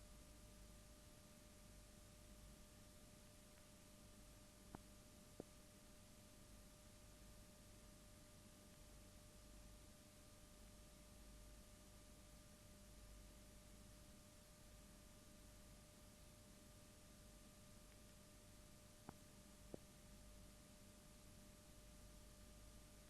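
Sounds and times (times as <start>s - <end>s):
steady electrical whine: 0.0s - 23.0s.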